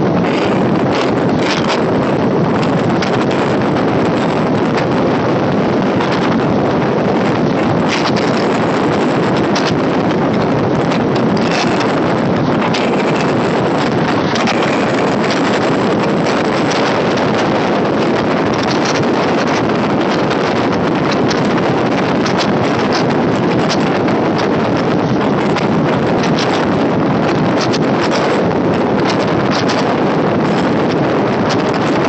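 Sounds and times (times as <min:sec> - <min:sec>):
electric train running at speed: 0:00.0 - 0:32.0
wind buffeting the microphone: 0:00.0 - 0:32.0.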